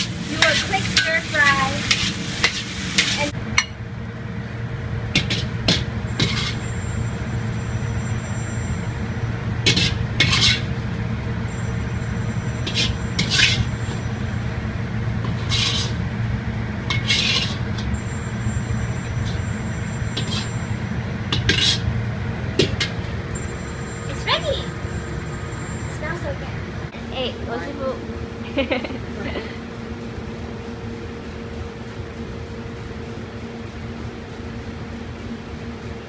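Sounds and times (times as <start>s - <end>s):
kitchen low rumble: 0.0s - 36.0s.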